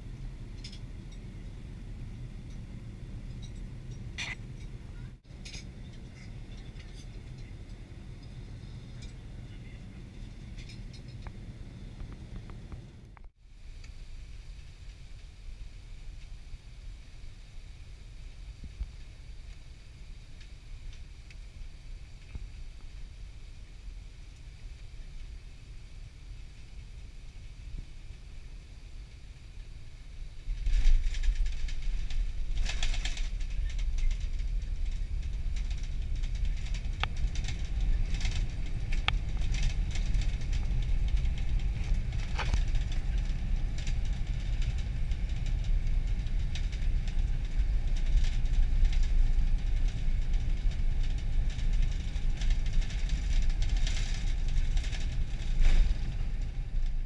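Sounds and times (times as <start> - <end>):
low rumble from runway: 0.0 - 57.0.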